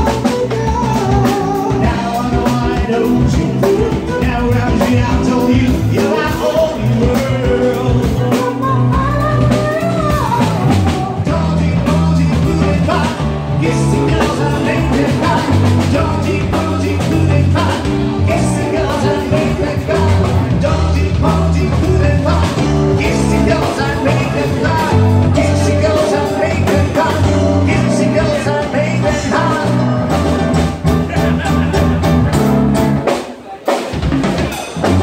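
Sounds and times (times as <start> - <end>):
person singing: 0.0 - 32.9
live band playing upbeat song: 0.0 - 35.0.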